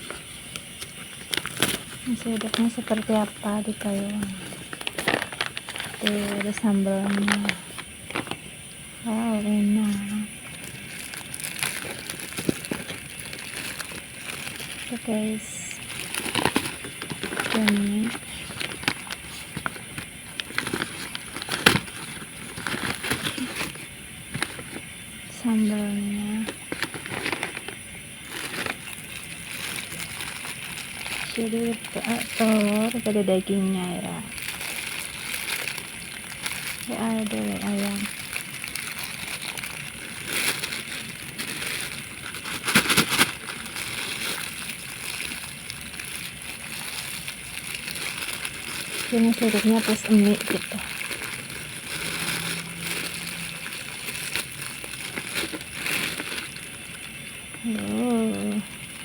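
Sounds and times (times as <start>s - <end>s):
plastic packaging clicks and crinkles: 0.0s - 59.0s.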